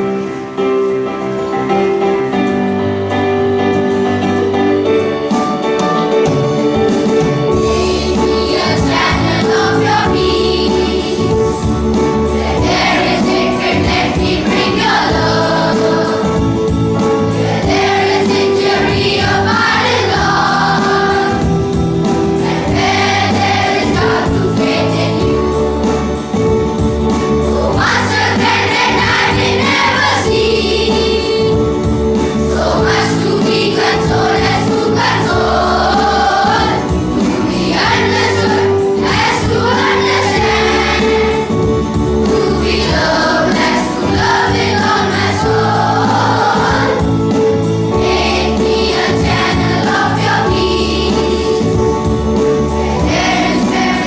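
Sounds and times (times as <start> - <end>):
children's choir singing a hymn: 0.0 - 54.0
keyboard accompaniment: 0.0 - 54.0.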